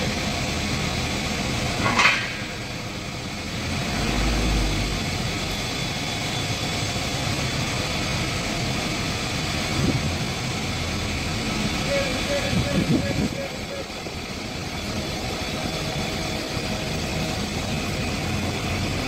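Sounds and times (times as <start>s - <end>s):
crane engine running: 0.0s - 19.0s.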